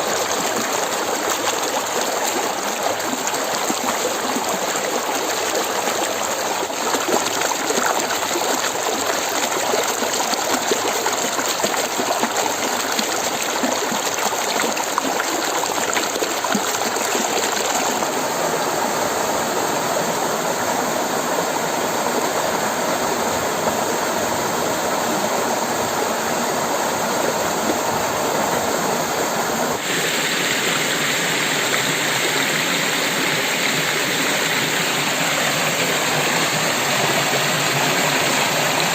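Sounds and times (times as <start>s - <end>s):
water stream rushing: 0.0s - 38.9s.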